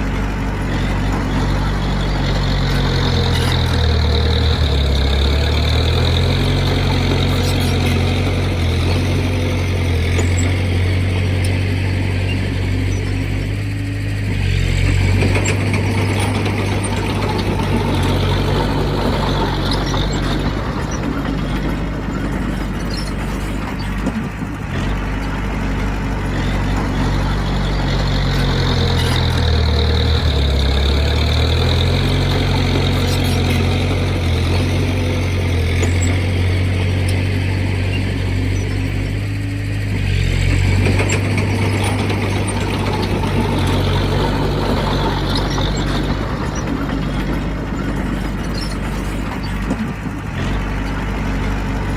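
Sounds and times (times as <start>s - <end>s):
heavy diesel engine running: 0.0s - 51.9s
mechanical clatter: 0.0s - 51.9s.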